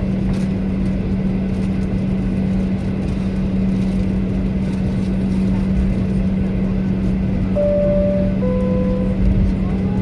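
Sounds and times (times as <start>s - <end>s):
airliner cabin rumble: 0.0s - 10.0s
constant low hum: 0.0s - 10.0s.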